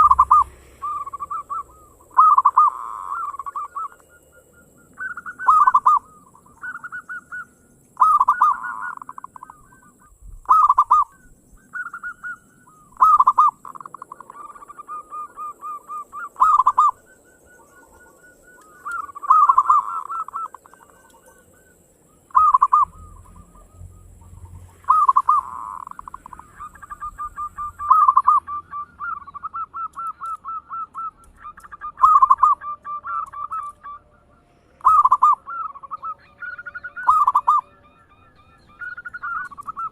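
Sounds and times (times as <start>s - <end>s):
doves cooing in staccato bursts: 0.0s - 34.0s, 34.8s - 39.9s
soft rapid dove trills: 0.0s - 39.9s.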